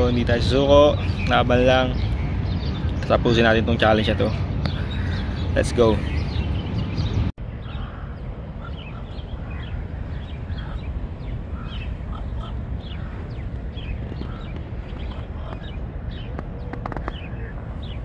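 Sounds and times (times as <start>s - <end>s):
birds chirping: 0.0s - 18.0s
steady low rumble: 0.0s - 18.0s.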